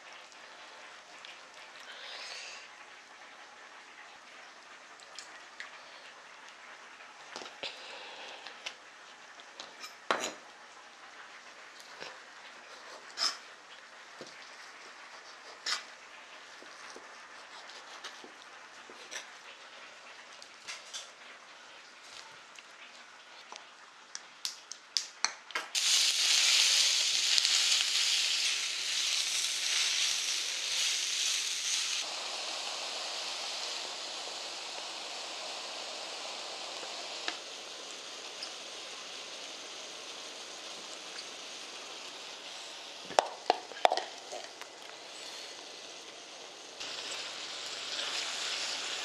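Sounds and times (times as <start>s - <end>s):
food sizzling in oil in a pan: 0.0s - 23.2s, 25.7s - 49.0s.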